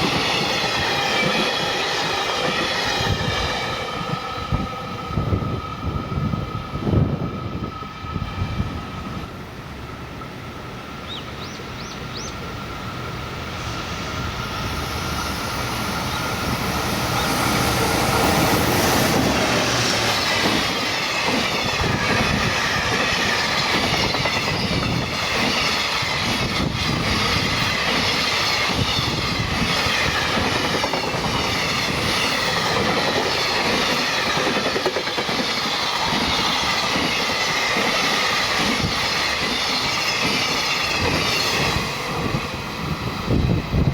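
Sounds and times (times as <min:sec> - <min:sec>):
freight train wagons rumbling: 0:00.0 - 0:43.9.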